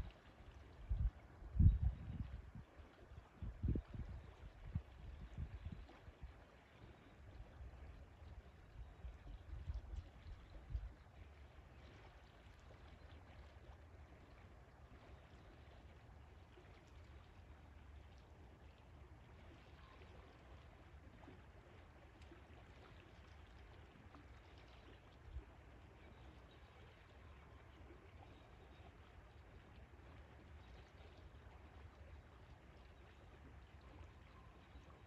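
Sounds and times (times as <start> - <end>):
river water flowing: 0.0 - 35.0.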